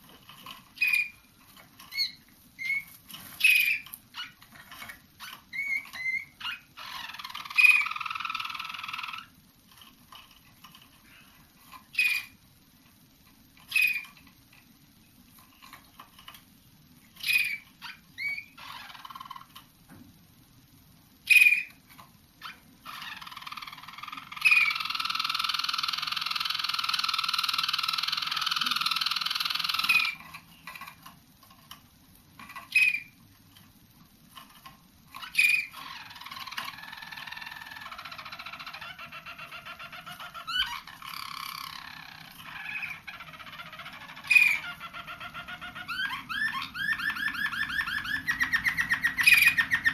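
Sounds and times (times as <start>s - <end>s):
canary rolling song: 0.0s - 49.9s.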